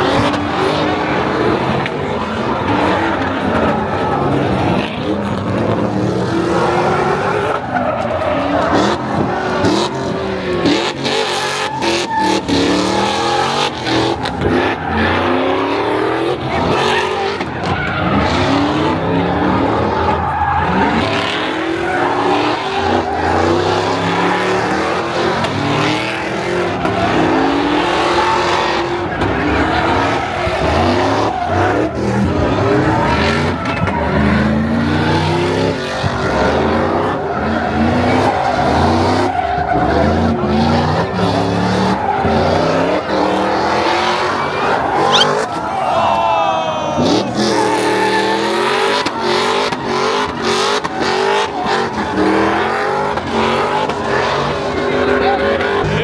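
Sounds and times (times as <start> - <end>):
car engines revving: 0.0 - 56.0
tyres squealing: 0.1 - 56.0.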